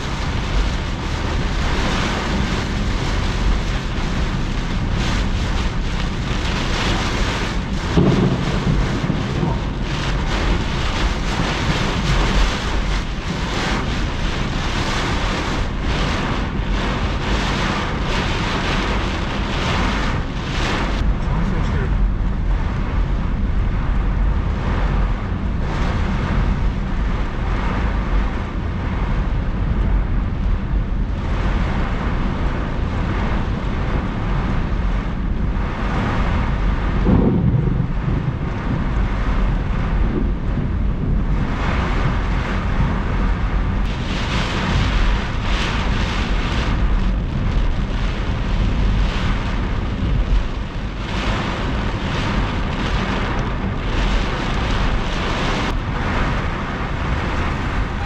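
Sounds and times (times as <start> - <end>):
heavy rain on car windshield: 0.0 - 58.0
wind buffeting: 0.0 - 58.0.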